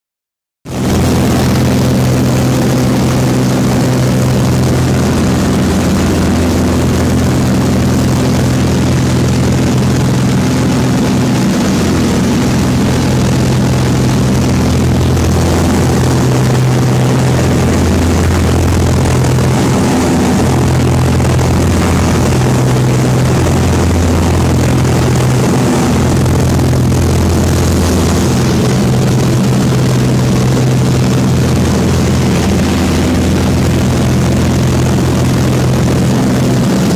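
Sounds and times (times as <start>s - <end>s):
propeller aircraft engine droning: 0.7s - 36.9s.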